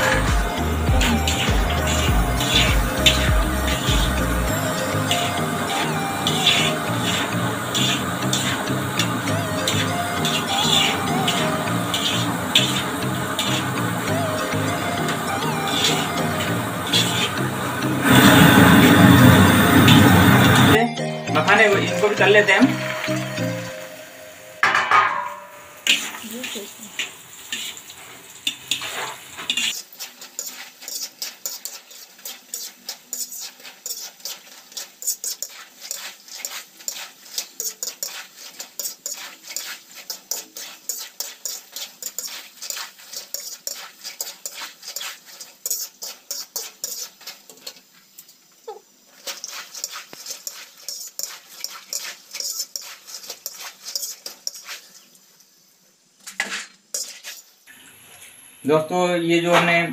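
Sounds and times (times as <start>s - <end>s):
skimmer scraping metal pan: 0.0s - 20.8s, 24.6s - 27.8s, 28.5s - 47.8s, 49.1s - 55.0s, 56.4s - 57.5s.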